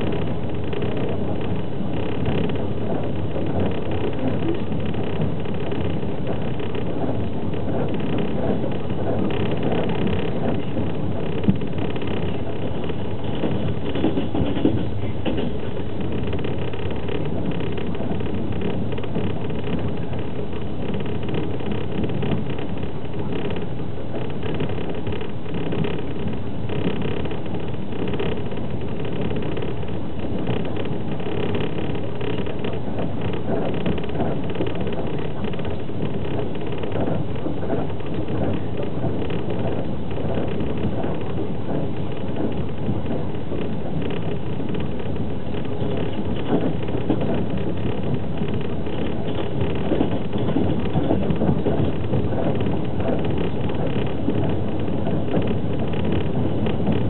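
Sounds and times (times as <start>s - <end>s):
train running noise from inside: 0.0s - 57.0s.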